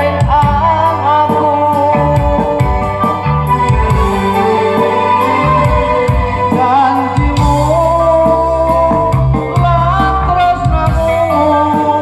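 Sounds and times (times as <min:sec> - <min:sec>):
loud music over sound system: 0:00.0 - 0:12.0.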